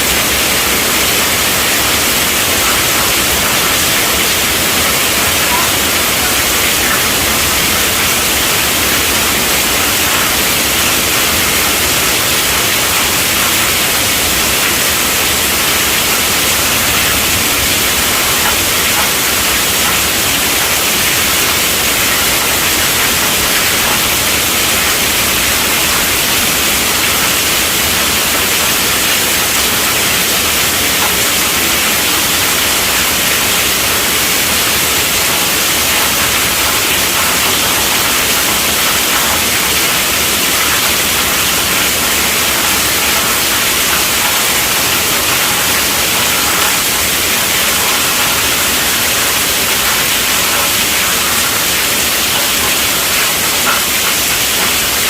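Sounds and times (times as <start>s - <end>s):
heavy rain on a tent roof: 0.0s - 55.0s.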